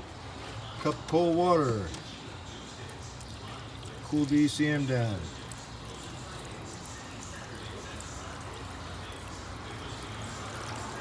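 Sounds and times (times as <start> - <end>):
water pouring and trickling: 0.0 - 11.0.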